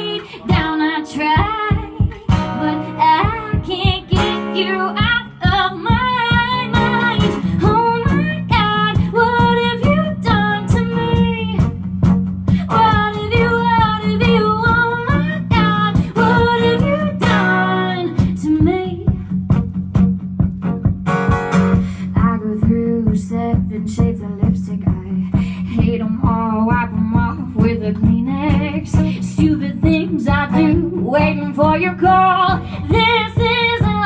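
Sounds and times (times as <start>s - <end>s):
woman singing: 0.0s - 11.8s, 12.5s - 19.4s, 21.9s - 34.0s
acoustic guitars: 0.0s - 34.0s.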